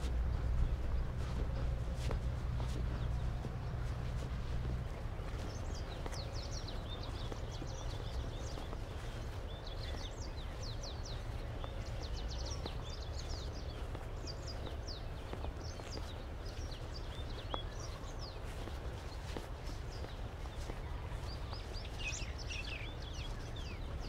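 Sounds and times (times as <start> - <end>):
low outdoor rumble: 0.0 - 24.0
small birds chirping: 0.0 - 24.0.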